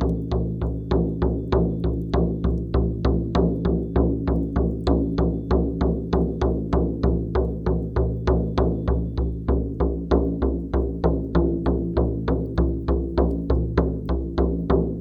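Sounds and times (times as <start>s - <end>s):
frame drum beating: 0.0s - 15.0s.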